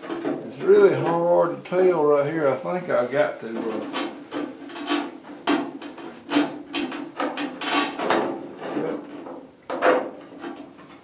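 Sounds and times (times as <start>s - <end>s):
sheet steel scraping and creaking: 0.0s - 11.0s.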